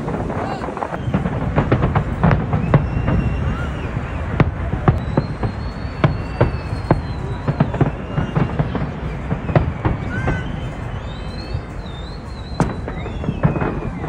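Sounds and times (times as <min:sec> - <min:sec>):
firework whistles: 0:00.0 - 0:14.0
fireworks bangs and cracks: 0:00.0 - 0:14.0.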